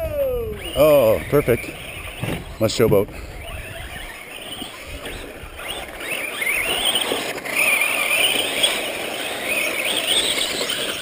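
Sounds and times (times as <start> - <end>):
toy truck motor whining: 0.0 - 11.0.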